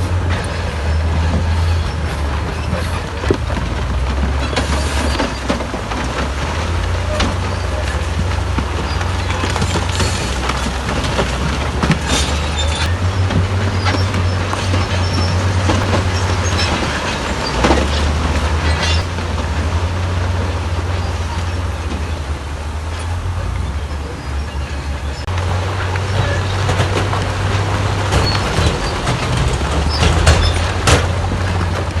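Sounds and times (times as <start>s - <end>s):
diesel machinery engine rumble: 0.0s - 32.0s
metal and rock clanking: 0.0s - 32.0s.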